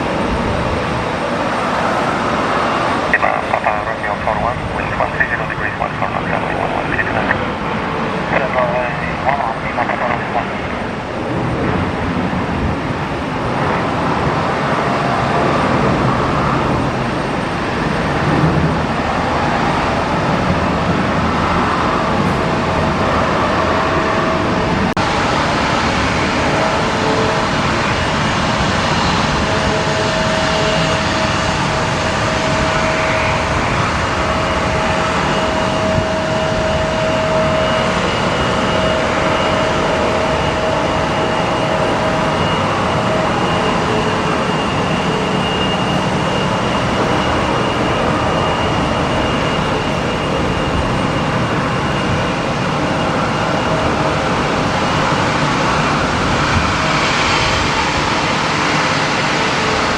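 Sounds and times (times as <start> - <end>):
fainter higher whine: 0.0 - 59.9
jet engines rushing: 0.0 - 59.9
steady whine: 0.0 - 59.9.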